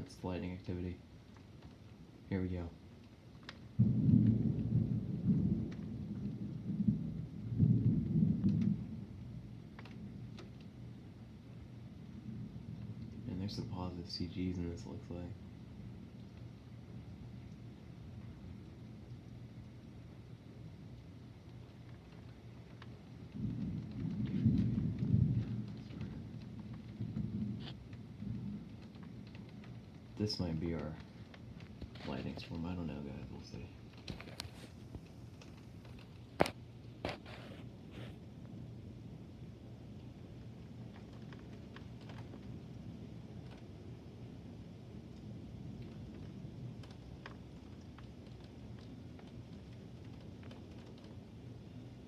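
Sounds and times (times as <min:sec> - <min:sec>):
thunder rumbling: 0:00.0 - 0:52.0.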